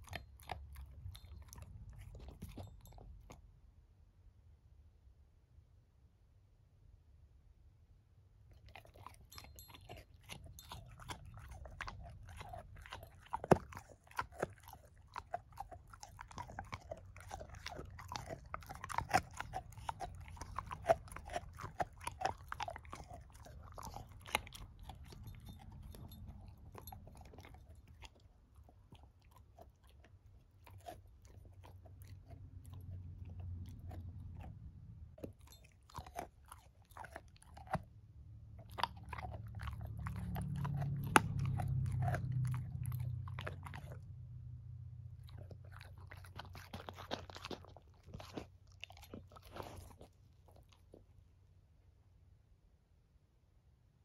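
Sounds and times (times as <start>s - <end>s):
puppy crunching on a bone: 0.0s - 3.5s, 8.4s - 51.6s.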